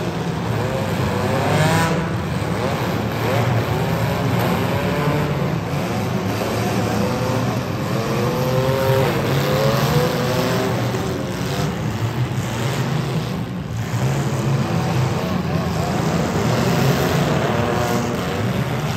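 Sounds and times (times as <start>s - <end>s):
car engines revving: 0.0s - 18.9s.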